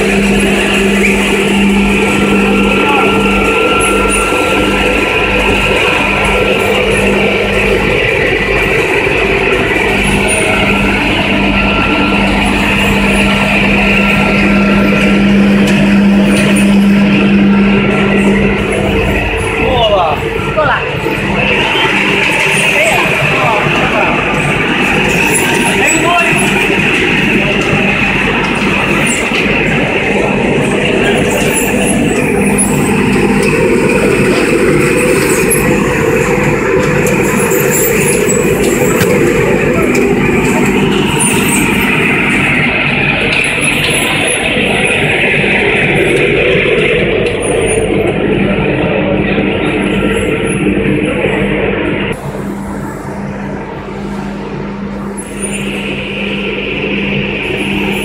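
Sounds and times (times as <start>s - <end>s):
factory machinery running: 0.0s - 58.0s
rotating drum mechanical rumble: 0.0s - 58.0s
steady low hum: 0.0s - 58.0s.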